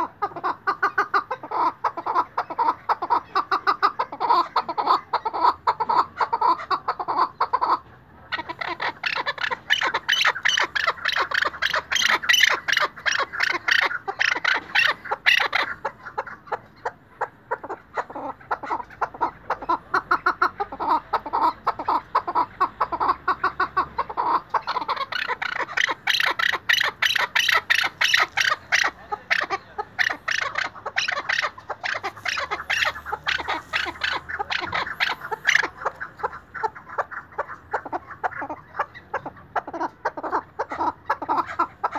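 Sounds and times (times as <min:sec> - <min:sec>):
partridge calling chuck notes: 0:03.9 - 0:41.9.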